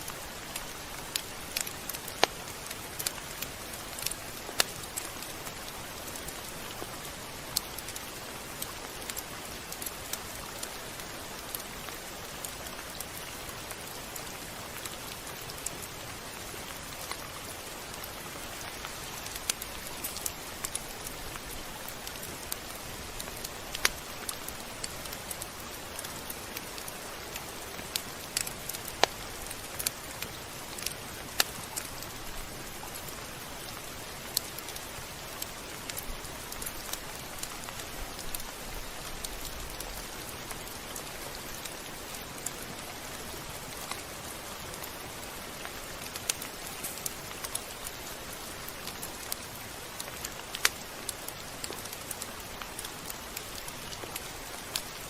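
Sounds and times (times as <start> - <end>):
raindrops ticking on surface: 0.0 - 55.0
steady rain hiss: 0.0 - 55.0.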